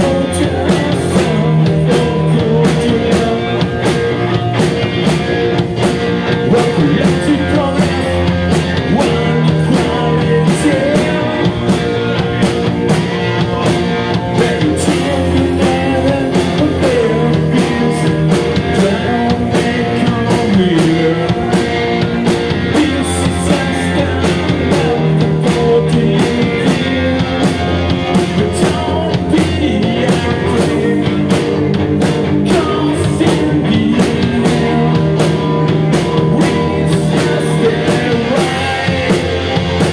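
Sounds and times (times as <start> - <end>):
drum kit beat: 0.0 - 39.9
electric bass: 0.0 - 39.9
electric guitars: 0.0 - 39.9
man singing lead vocal: 0.0 - 39.9.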